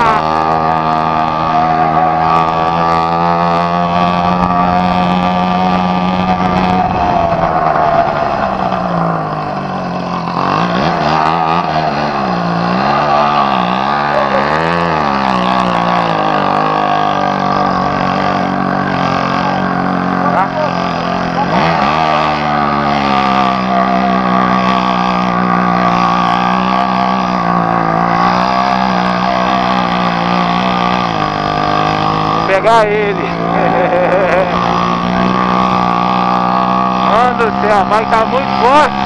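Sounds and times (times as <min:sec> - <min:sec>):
two-stroke engine revving: 0:00.0 - 0:39.0.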